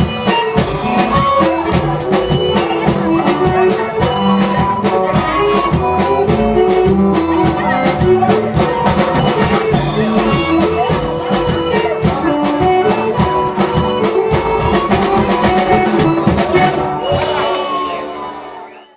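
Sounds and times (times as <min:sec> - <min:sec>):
dance-band instrumental music: 0:00.0 - 0:18.9
drum kit steady beat: 0:00.0 - 0:18.9.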